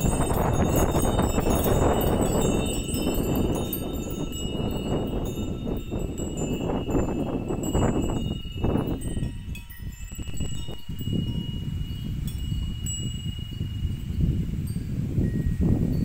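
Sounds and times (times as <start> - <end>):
metal wind chimes ringing: 0.0 - 16.0
wind buffeting microphone: 0.0 - 16.0.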